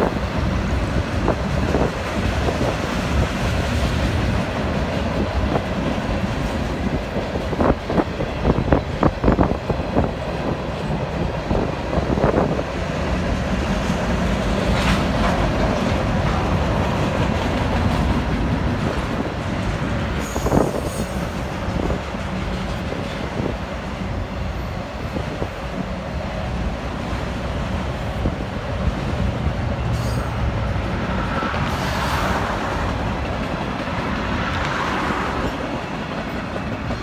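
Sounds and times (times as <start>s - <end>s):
freight train rolling on rails: 0.0s - 37.0s.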